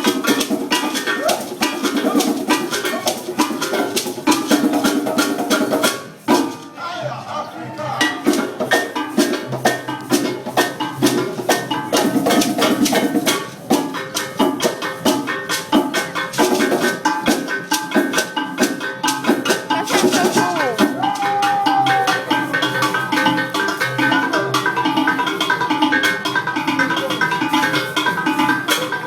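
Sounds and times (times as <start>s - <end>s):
rattling shakers: 0.0s - 6.6s, 8.2s - 25.6s
hand drums playing: 0.0s - 6.8s, 7.9s - 29.0s.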